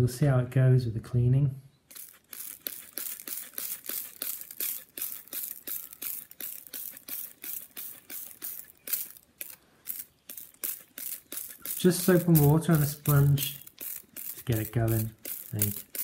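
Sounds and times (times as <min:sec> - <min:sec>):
trigger sprayer squirting water: 0:01.9 - 0:16.0.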